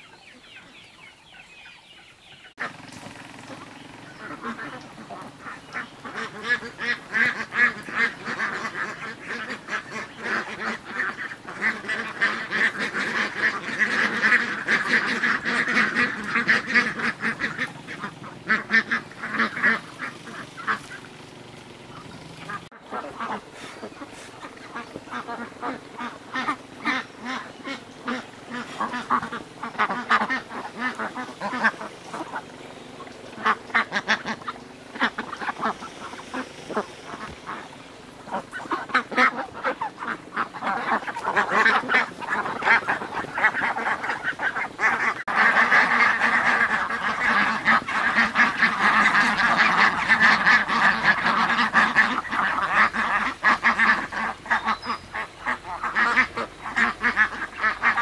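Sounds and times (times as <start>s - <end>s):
ducks quacking: 0.0s - 58.0s.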